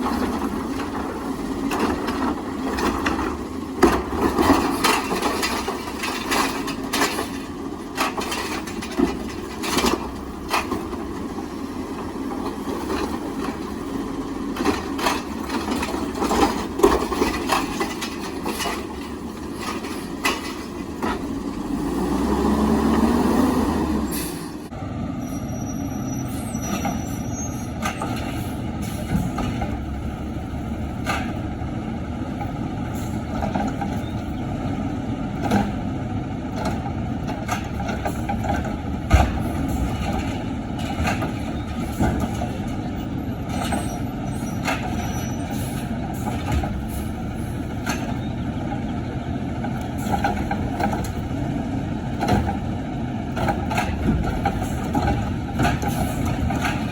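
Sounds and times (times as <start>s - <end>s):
knocks and clanks: 0.0s - 21.8s, 27.8s - 31.6s, 32.3s - 34.4s, 35.3s - 56.9s
garbage truck engine running: 0.0s - 56.9s.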